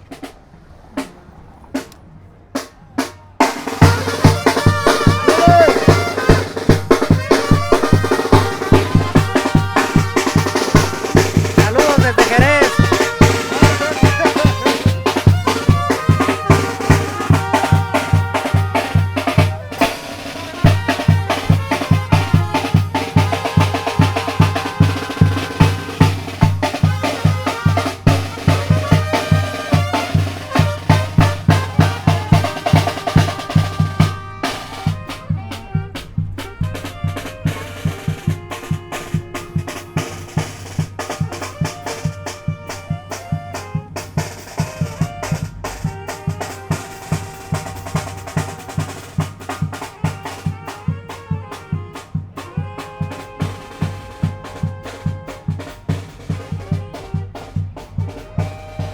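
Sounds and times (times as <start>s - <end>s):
bass drum and snare beat: 3.0s - 58.9s
brass playing: 3.4s - 58.9s.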